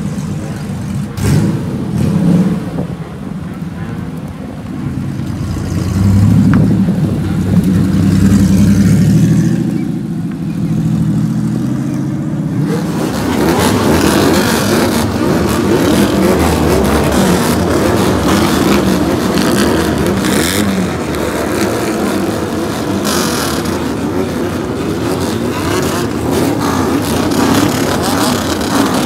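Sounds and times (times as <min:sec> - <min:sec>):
car engine driving away: 0:00.0 - 0:03.4, 0:04.2 - 0:29.0
motorcycles revving: 0:00.0 - 0:29.0.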